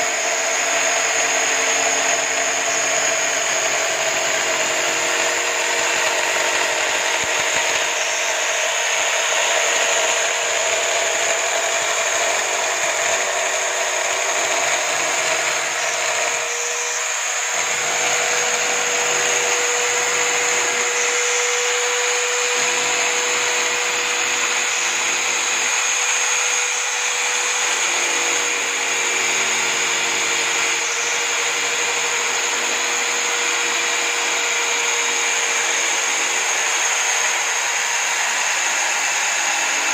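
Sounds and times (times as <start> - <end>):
electric drill motor whining: 0.0 - 39.9.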